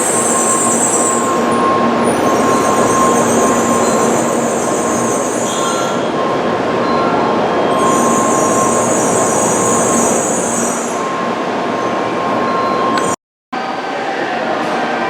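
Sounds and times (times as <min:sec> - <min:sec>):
train running noise with hiss: 0:00.0 - 0:13.2.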